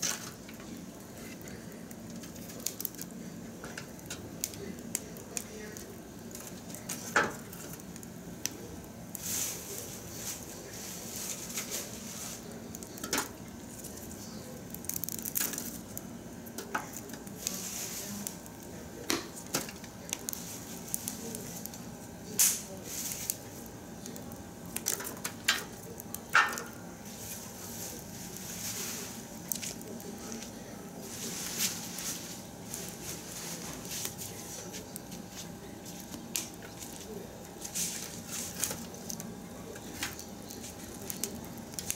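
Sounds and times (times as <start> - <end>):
fire hissing: 0.0 - 41.9
fire snaps and pops: 0.0 - 41.9
wood fire crackling: 0.0 - 41.9.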